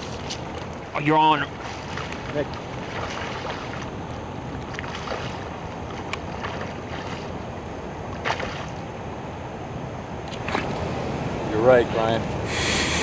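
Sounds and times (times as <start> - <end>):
water lapping around boat: 0.0 - 9.6, 10.2 - 13.0
wind: 0.0 - 13.0.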